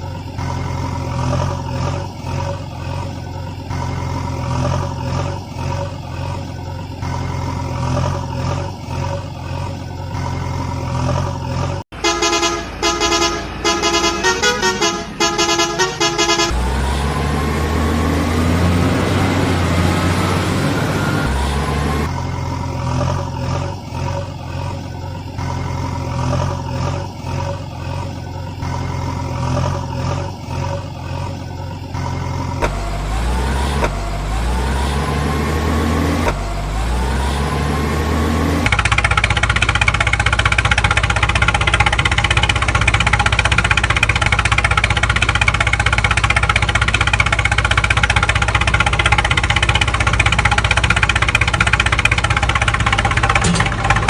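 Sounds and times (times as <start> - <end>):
engine revving up: 0.0 - 11.9, 16.4 - 54.0
cartoon truck engine drone: 0.0 - 54.0.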